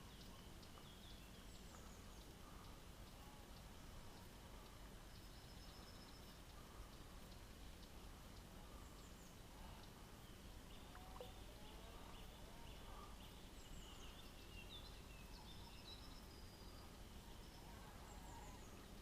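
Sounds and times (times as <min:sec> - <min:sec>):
faint bird chirps and twitters: 0:00.0 - 0:19.0
low steady background hiss: 0:00.0 - 0:19.0.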